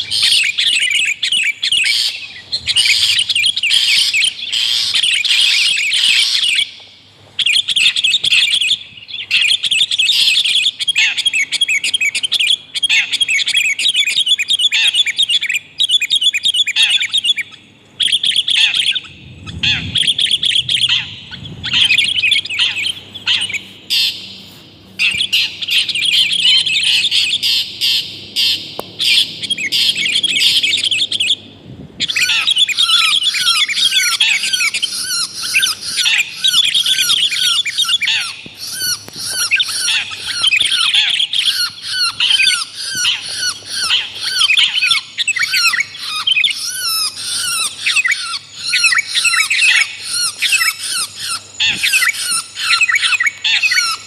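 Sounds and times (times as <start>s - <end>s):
rapid down-slurred bird notes: 0.0s - 6.8s, 7.4s - 54.0s
birds chattering and squawking: 0.0s - 54.0s.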